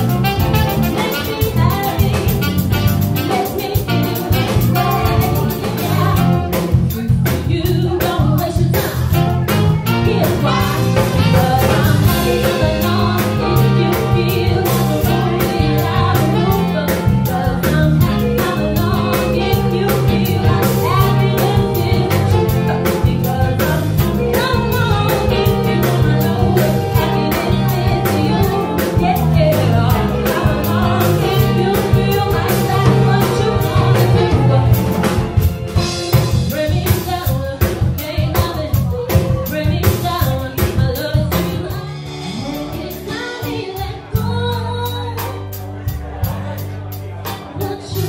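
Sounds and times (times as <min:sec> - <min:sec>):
woman backing singing: 0:00.0 - 0:45.6, 0:46.2 - 0:48.0
drum kit: 0:00.0 - 0:48.0
electric bass: 0:00.0 - 0:48.0
woman singing lead: 0:00.0 - 0:48.0.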